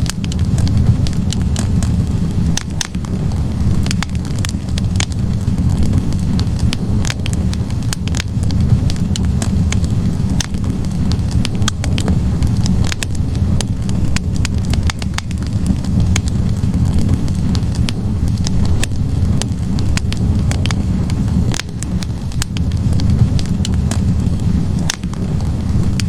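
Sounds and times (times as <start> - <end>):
logs crackling and popping: 0.0 - 26.0
low rumble of flames: 0.0 - 26.0.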